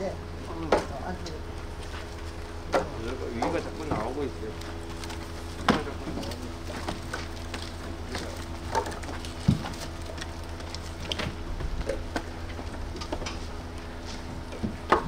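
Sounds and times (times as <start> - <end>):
firewood logs knocking: 0.6 - 15.0.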